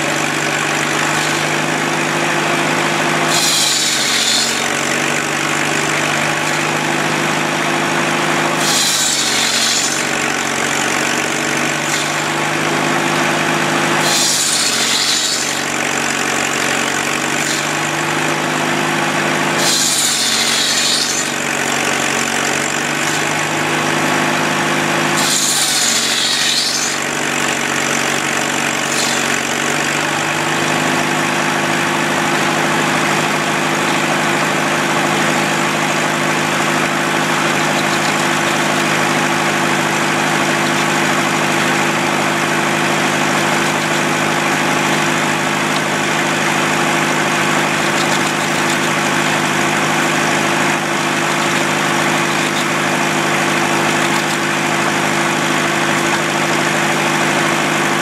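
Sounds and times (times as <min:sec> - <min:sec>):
saw mill machine hum: 0:00.0 - 0:58.0.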